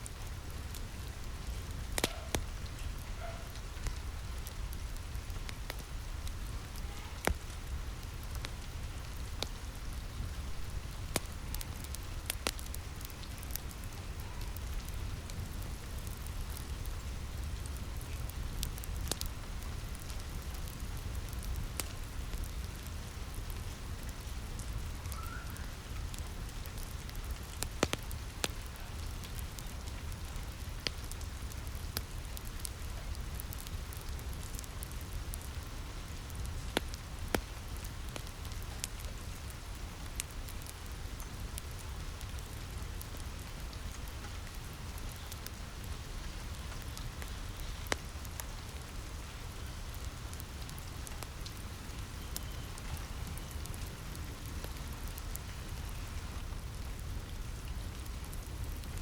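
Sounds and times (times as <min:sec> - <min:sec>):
rain on a roof: 0:00.0 - 0:59.0
wood fire crackling: 0:00.0 - 0:59.0.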